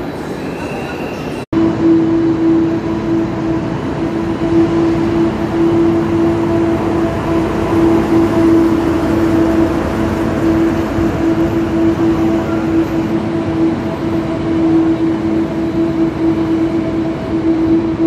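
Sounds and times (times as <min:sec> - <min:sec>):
diesel locomotive engine drone: 0:00.0 - 0:18.0
train coaches rolling by: 0:00.0 - 0:18.0.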